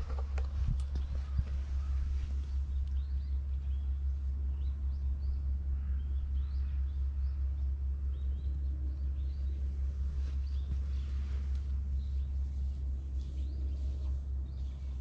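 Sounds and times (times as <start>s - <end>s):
low rumble: 0.0s - 15.0s
small birds chirping: 0.0s - 15.0s.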